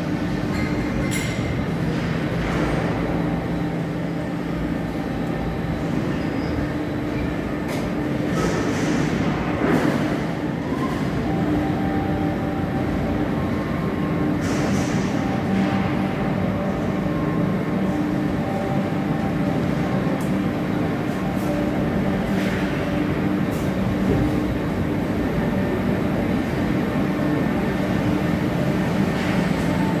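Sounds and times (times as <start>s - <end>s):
industrial machinery drone: 0.0s - 30.0s.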